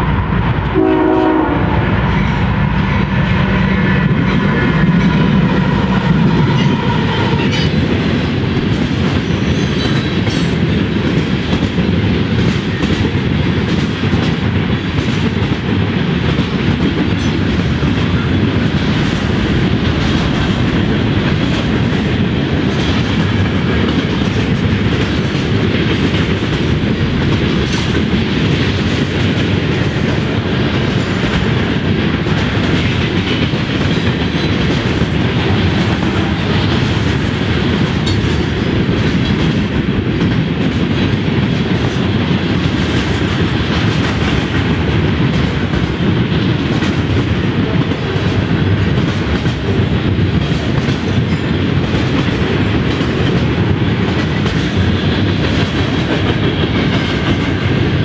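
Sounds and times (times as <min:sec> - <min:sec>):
train wheels rumbling on rails: 0:00.0 - 0:58.0
faint rail clacks: 0:02.1 - 0:58.0.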